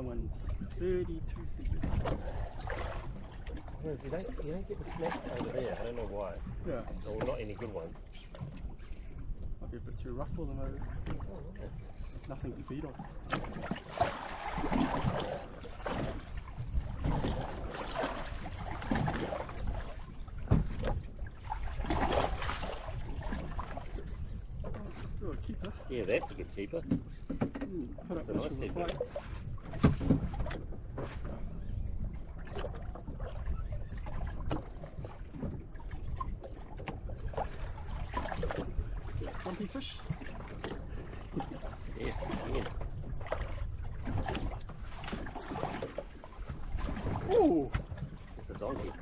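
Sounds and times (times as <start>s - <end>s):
water slapping against boat hull: 0.0s - 49.0s.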